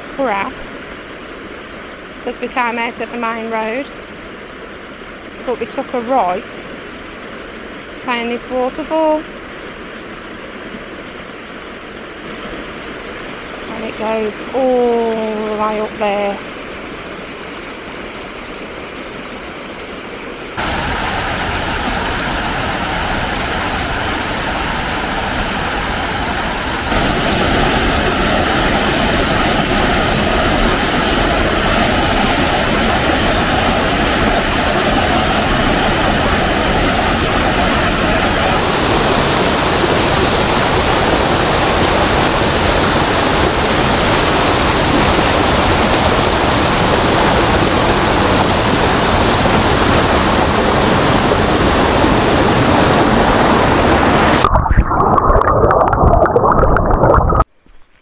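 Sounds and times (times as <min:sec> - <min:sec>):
waterfall rushing over rocks: 0:00.0 - 0:54.5.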